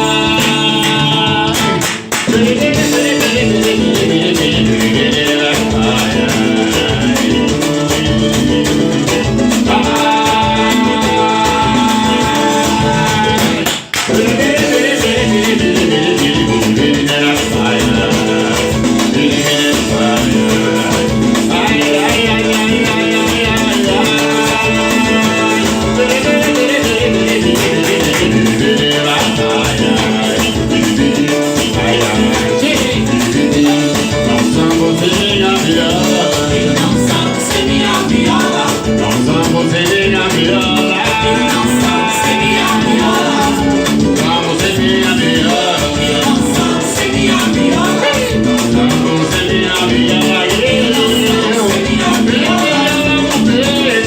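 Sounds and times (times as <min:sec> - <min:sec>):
person singing: 0:00.0 - 0:54.0
plucked guitar: 0:00.0 - 0:54.0
rattling percussion: 0:00.0 - 0:54.0.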